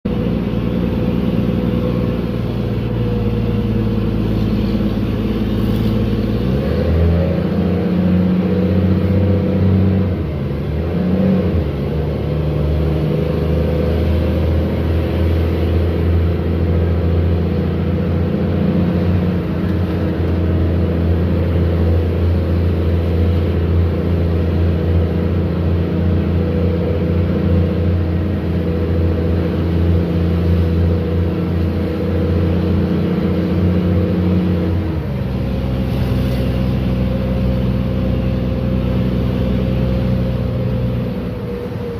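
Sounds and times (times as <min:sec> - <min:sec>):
bus diesel engine droning: 0:00.0 - 0:41.9.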